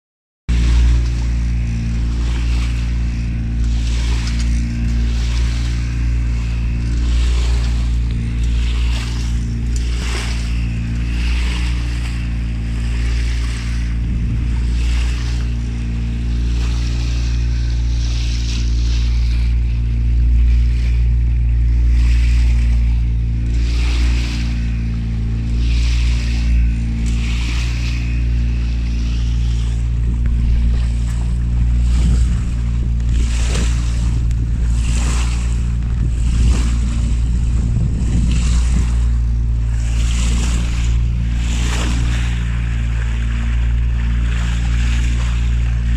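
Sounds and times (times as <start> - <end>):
boat engine running: 0.5 - 45.9
water rushing along hull: 0.5 - 45.9.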